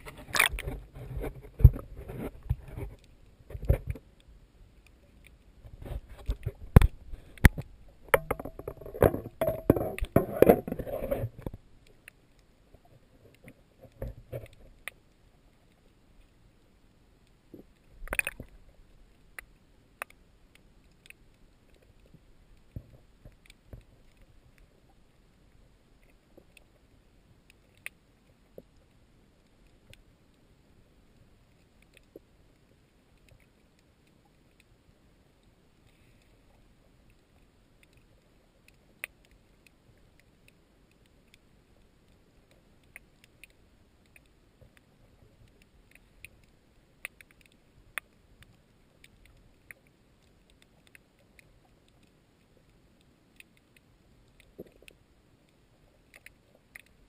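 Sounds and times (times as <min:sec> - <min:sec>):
faint muffled hiss: 0:00.0 - 0:57.0.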